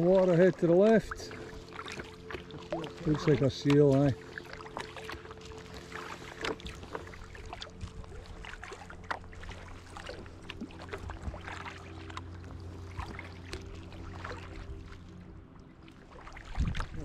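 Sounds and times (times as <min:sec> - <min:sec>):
paddle splashes and drips: 0:00.0 - 0:17.0
water against hull: 0:00.0 - 0:17.0.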